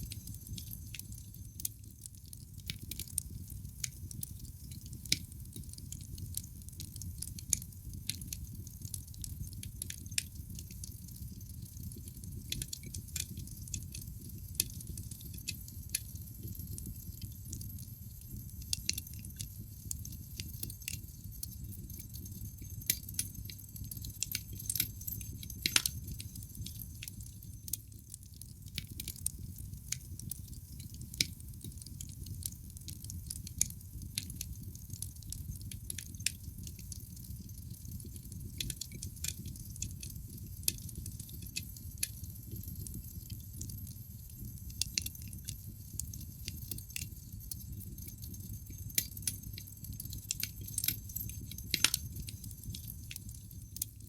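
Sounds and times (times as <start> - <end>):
low rumble of flames: 0.0 - 53.8
wood fire crackling: 0.0 - 54.0.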